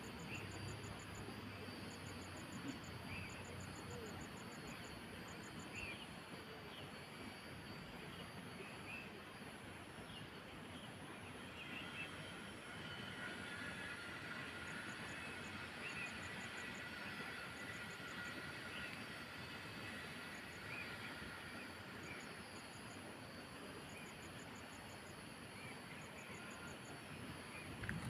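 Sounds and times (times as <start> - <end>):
faint chirps: 0.0 - 28.0
steady hiss: 0.0 - 28.0.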